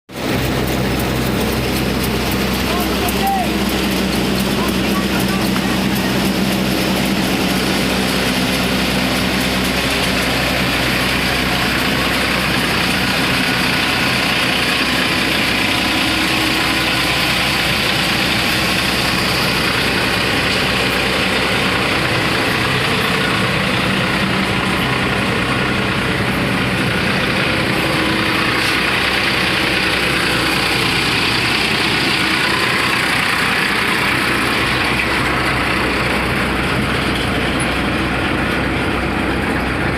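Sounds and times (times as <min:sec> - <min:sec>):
thresher machinery din: 0:00.1 - 0:39.9
tractor engine running: 0:00.1 - 0:39.9.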